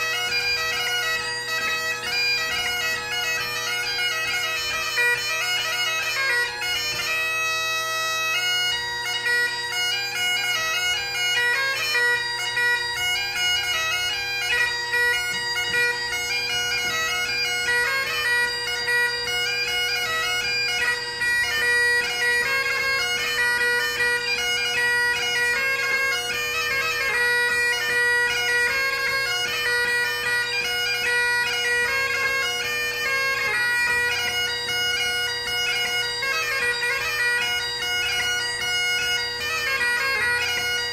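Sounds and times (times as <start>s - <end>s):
bagpipe chanter melody: 0.0s - 40.9s
bagpipe drones: 0.0s - 40.9s.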